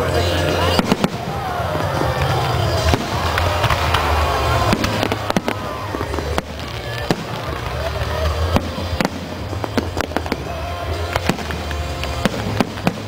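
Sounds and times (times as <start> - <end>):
music playing: 0.0 - 13.0
firework shells bursting: 0.7 - 13.0.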